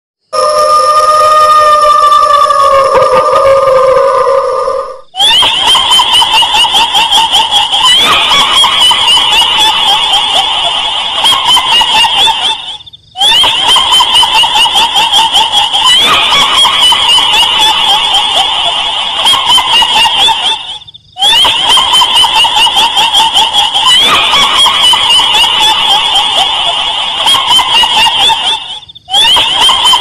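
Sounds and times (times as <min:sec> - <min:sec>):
high-pitched cackling laugh: 0:00.4 - 0:30.0.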